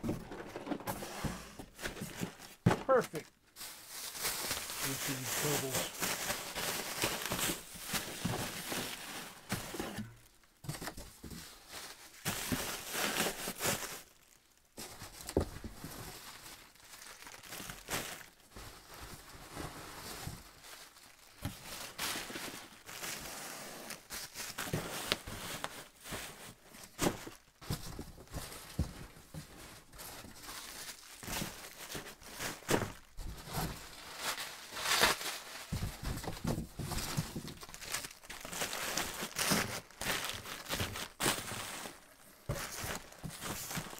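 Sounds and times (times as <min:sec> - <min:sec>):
bubble wrap crinkling: 0:01.6 - 0:43.9.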